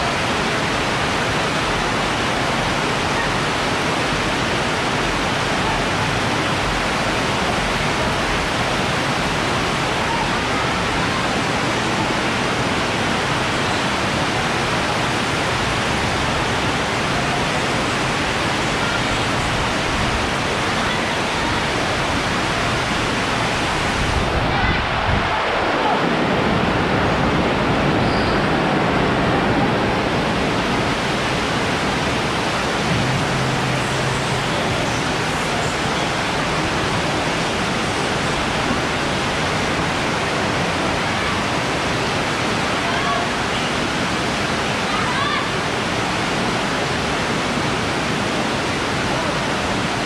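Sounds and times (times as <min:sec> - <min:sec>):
heavy rain on a metal roof: 0:00.0 - 0:50.0.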